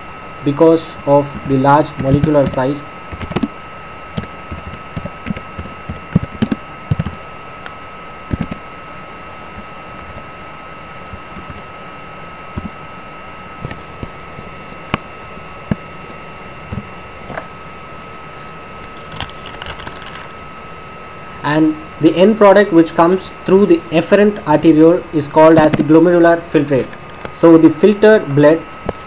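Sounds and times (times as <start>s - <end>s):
high-pitched whine with hiss: 0.0s - 29.0s.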